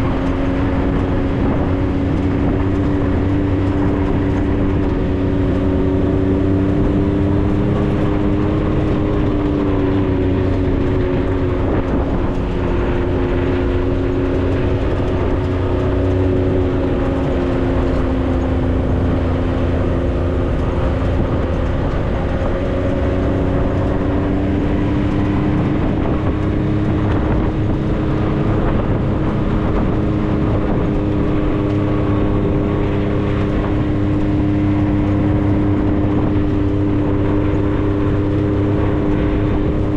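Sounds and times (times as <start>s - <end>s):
tyres rumbling on dirt road: 0.0s - 39.9s
vehicle engine droning: 0.0s - 39.9s.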